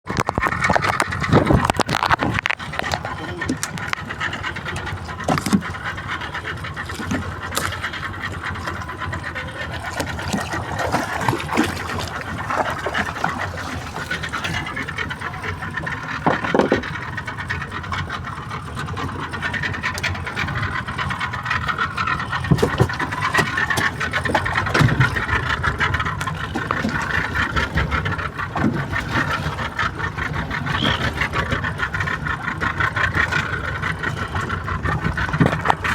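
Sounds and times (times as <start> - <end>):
boat engine running: 0.0 - 35.9.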